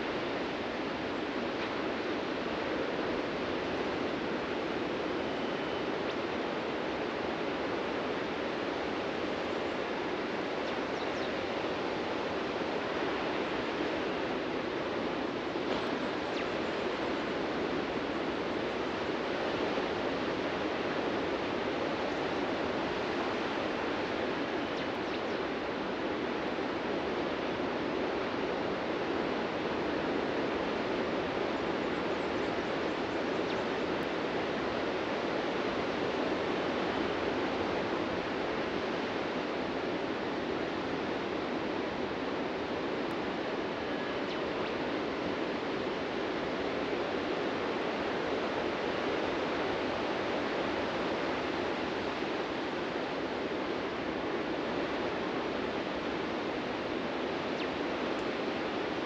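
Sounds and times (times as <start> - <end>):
ocean waves washing on beach: 0.0 - 59.0.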